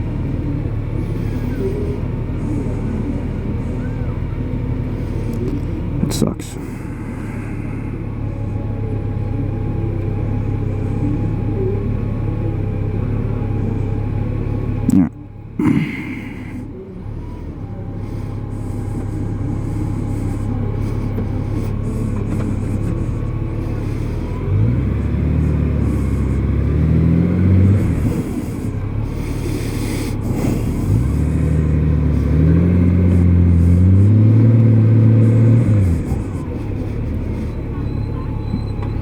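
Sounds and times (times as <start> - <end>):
motorcycle engine revving: 0.0 - 15.1, 15.8 - 39.0.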